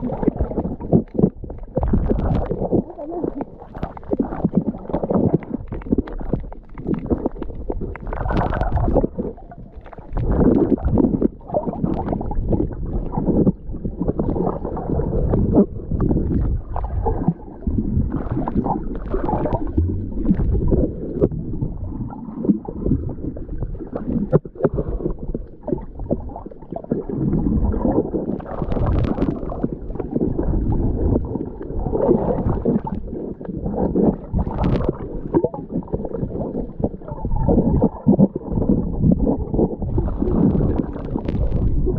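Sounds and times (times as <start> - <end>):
muffled underwater sloshing: 0.0 - 41.9
water splashes: 0.0 - 41.9.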